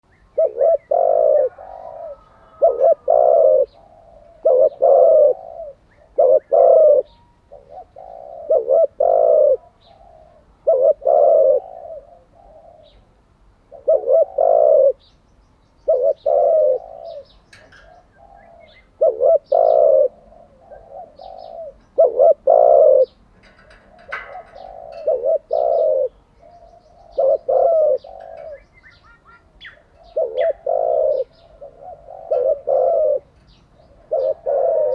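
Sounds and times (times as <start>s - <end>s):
dove cooing: 0.0s - 15.1s, 15.8s - 34.9s.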